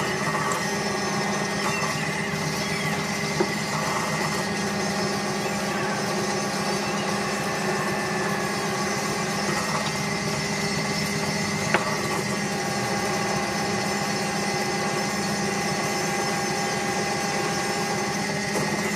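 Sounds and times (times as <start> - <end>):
drill bit drilling into metal: 0.0 - 18.9
drill press motor running: 0.0 - 18.9.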